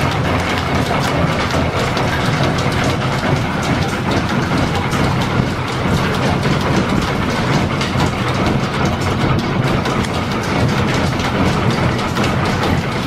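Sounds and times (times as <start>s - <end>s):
clatter of belts and gearing: 0.0s - 13.0s
low machinery hum: 0.0s - 13.0s.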